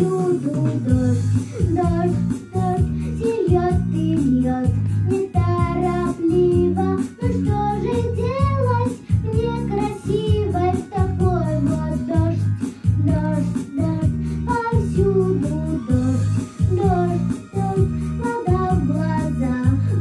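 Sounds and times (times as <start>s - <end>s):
backing track with steady beat: 0.0s - 20.0s
girl singing into microphone: 0.0s - 20.0s.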